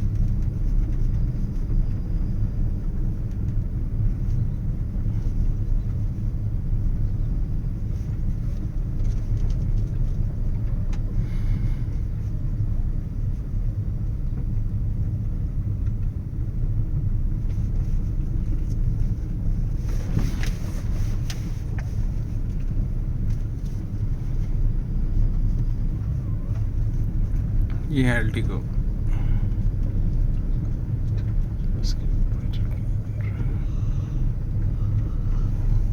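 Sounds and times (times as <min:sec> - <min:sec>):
car driving rumble: 0:00.0 - 0:35.9.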